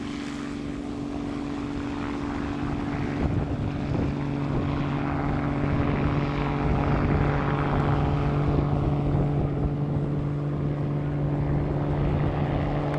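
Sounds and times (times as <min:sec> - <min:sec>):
helicopter engine and rotor: 0:00.0 - 0:12.9.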